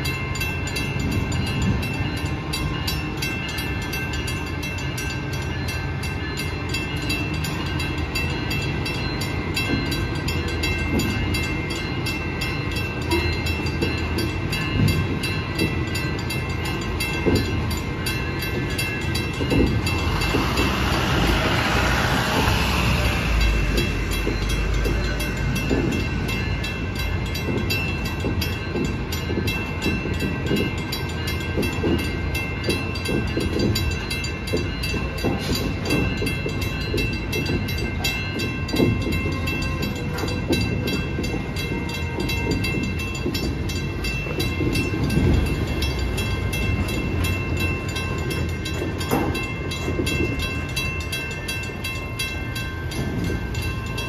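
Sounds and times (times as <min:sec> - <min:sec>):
crossing bell ringing: 0:00.0 - 0:54.0
train wheels rumbling and knocking: 0:00.0 - 0:54.0.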